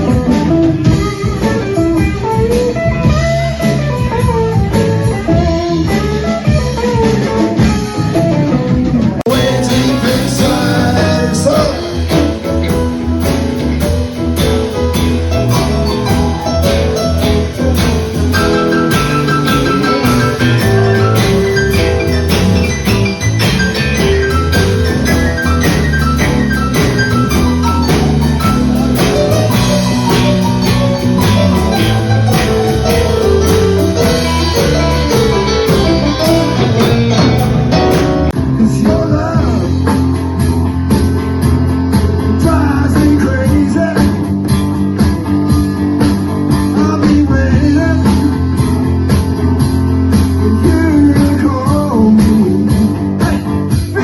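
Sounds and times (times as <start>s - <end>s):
live band guitar-led instrumental: 0.0s - 54.0s.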